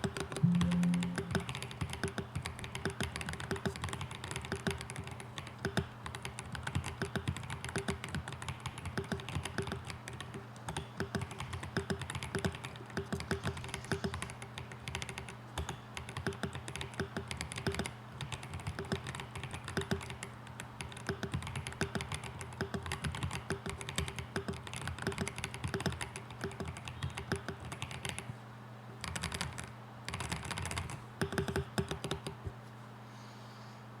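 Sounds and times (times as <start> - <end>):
rapid typing on mechanical keyboard: 0.0 - 28.3, 29.0 - 32.4.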